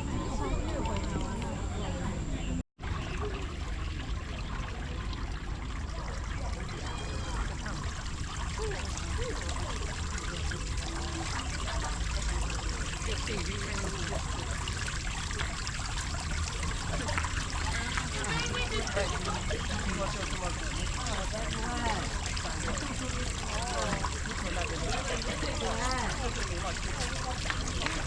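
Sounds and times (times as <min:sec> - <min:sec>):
faint voices of people: 0:00.0 - 0:28.0
water trickling and flowing: 0:00.0 - 0:28.0.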